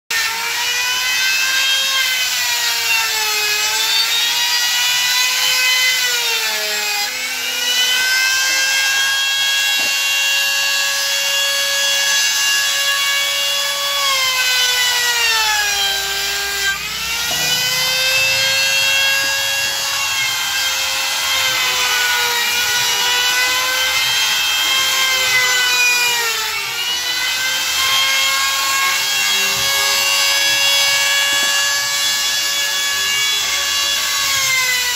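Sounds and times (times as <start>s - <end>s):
trim router whining: 0.1s - 34.9s.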